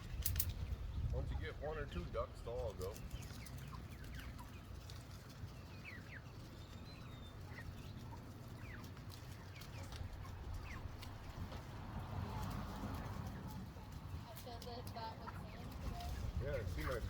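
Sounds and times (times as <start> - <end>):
chickens peeping and clucking: 0.0 - 17.0.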